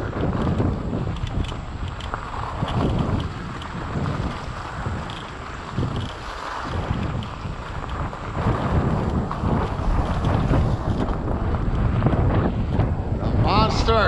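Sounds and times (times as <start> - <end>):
bike tyres rolling on gravel: 0.0 - 13.2
wind buffeting microphone: 0.0 - 14.0.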